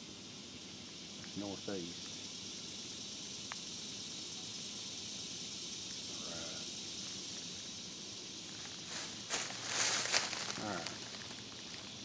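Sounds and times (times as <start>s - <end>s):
steady high-pitched forest hiss: 0.0s - 12.0s.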